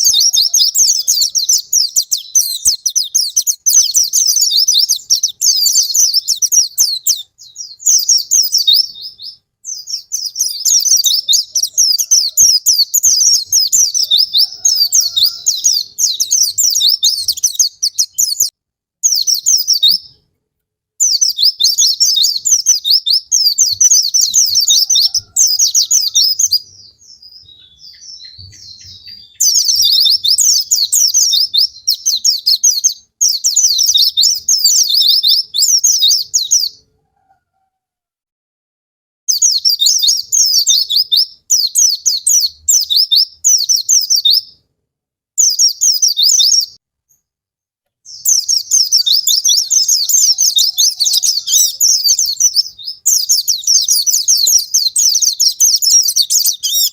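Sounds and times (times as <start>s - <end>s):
bird twittering rapid chirps: 0.0s - 20.2s, 21.0s - 36.8s, 39.3s - 44.6s, 45.4s - 47.2s, 48.1s - 56.9s.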